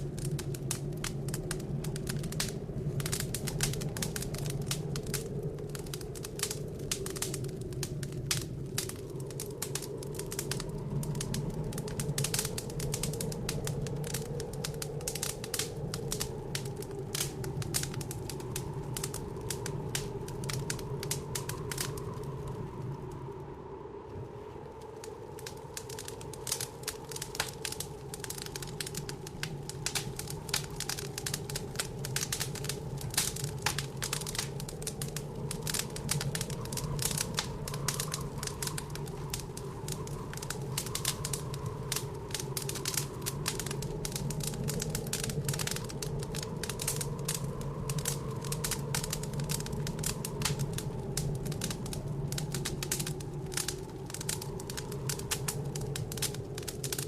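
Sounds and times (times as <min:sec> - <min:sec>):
blizzard wind drone: 0:00.0 - 0:57.0
wood fire crackling: 0:00.0 - 0:57.0.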